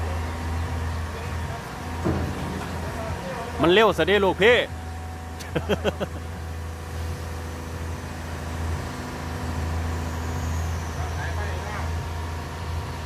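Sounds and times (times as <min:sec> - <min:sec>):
excavator diesel engine running: 0:00.0 - 0:13.0
faint steady whine: 0:00.0 - 0:13.0.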